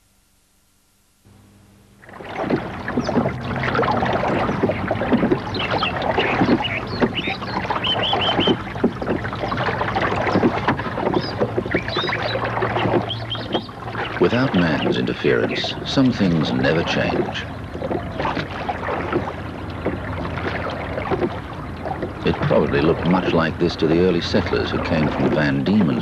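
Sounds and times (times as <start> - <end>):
river water splashing: 1.3 - 26.0
birds calling: 2.0 - 26.0.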